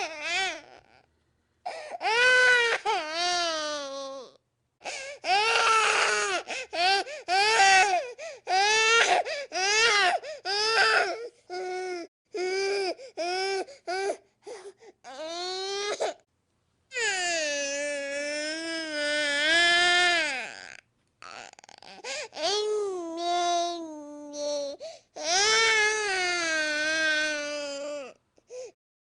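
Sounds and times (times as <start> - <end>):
infant crying: 0.0 - 1.1, 1.7 - 16.2, 16.9 - 28.8.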